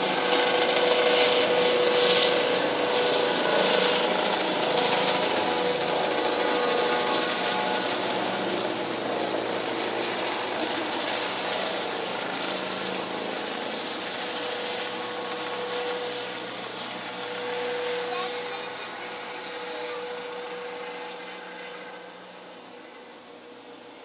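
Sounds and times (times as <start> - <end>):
helicopter turbine and rotor noise: 0.0 - 24.0.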